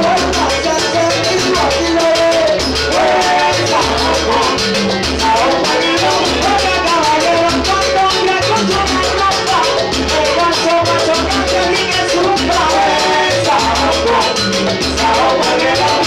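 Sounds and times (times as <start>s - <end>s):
maracas shaking: 0.0s - 16.0s
people singing: 0.0s - 16.0s
salsa band playing: 0.0s - 16.0s.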